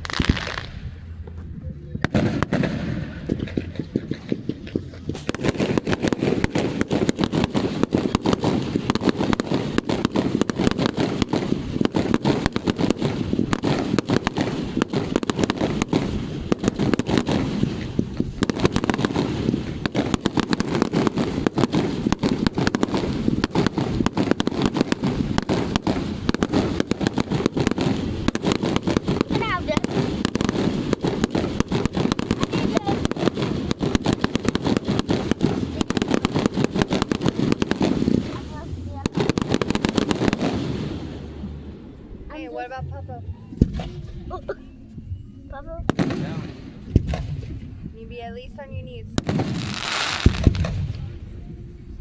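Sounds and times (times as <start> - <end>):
crackling firework barrage: 0.0 - 44.6, 45.6 - 52.0
firework bangs: 0.0 - 44.6, 45.8 - 51.4.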